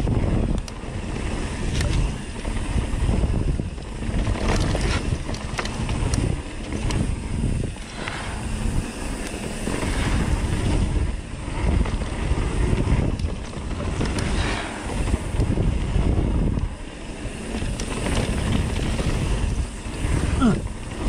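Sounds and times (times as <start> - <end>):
bike rolling on dirt trail: 0.0 - 21.0
wind buffeting the microphone: 0.0 - 21.0.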